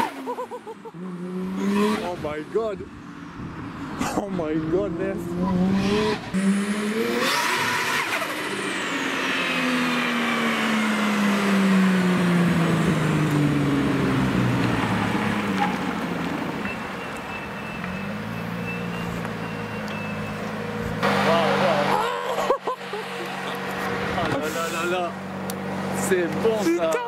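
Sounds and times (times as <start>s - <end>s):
car engine driving away: 0.0s - 26.9s.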